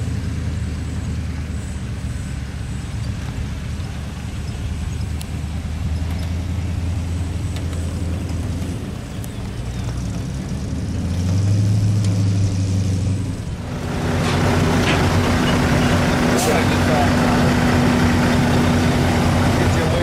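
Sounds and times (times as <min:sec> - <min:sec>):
vintage car engine running: 0:00.0 - 0:20.0.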